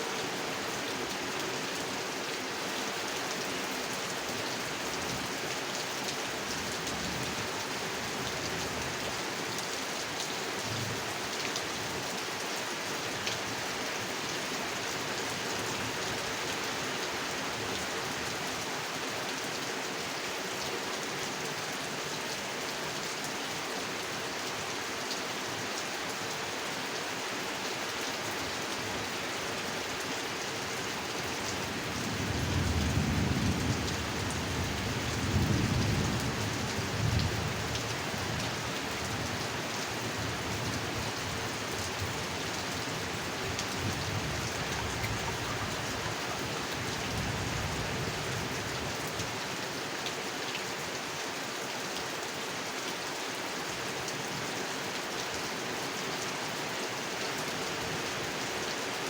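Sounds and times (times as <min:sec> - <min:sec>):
heavy rain on a pond: 0:00.0 - 0:59.0.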